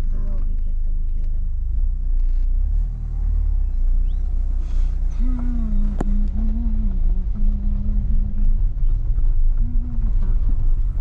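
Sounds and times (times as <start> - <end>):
engine and road rumble: 0.0 - 11.0
low hum: 0.0 - 11.0.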